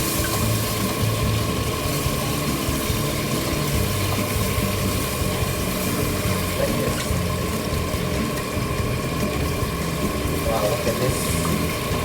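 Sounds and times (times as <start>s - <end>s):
background music with bass: 0.0s - 12.0s
meat sizzling in a pot: 0.0s - 12.0s.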